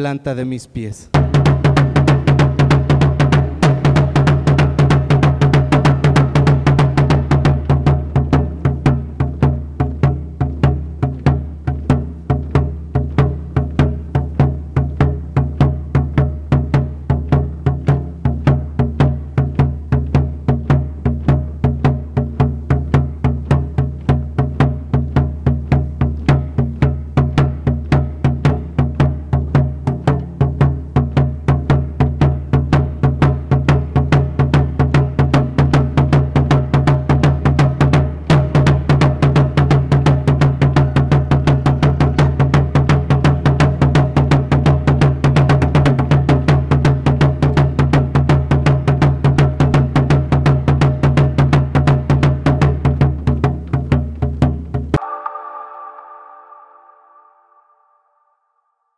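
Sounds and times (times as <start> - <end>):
large drum beaten with stick: 1.1 - 55.0.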